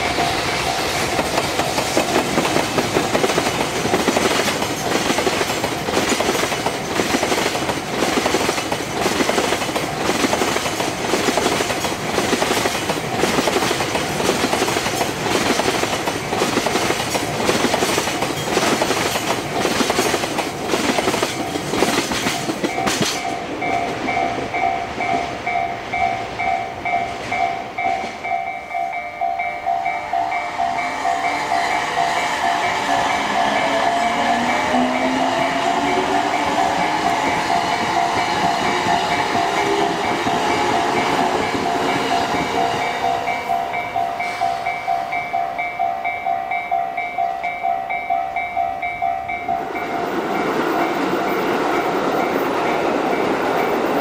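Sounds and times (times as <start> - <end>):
crossing warning bell ringing: 0.0 - 12.1, 12.7 - 54.0
train wheels clacking on rail joints: 0.0 - 29.0, 30.6 - 46.6.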